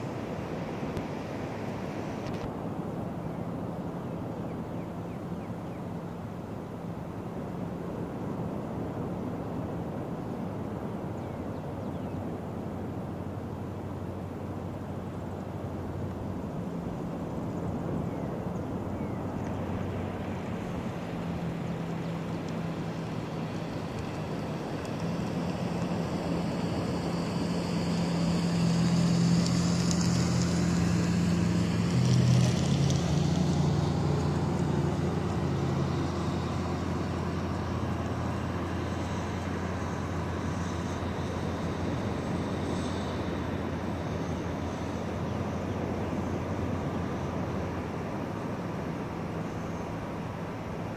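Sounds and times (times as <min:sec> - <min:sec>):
distant engine droning: 0:00.0 - 0:50.9.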